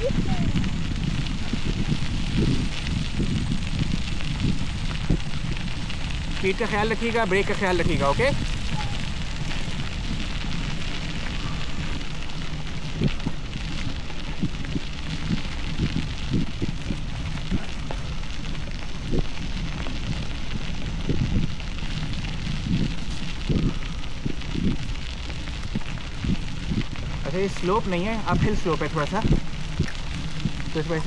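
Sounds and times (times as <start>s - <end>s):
bicycle tyres crunching on gravel: 0.0s - 31.0s
wind rumble on microphone: 0.0s - 31.0s.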